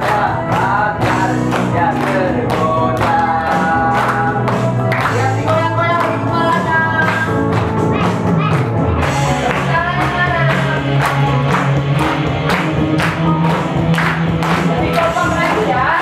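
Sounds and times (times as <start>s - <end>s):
hands clapping: 0.0s - 16.0s
upbeat song with singing: 0.0s - 16.0s.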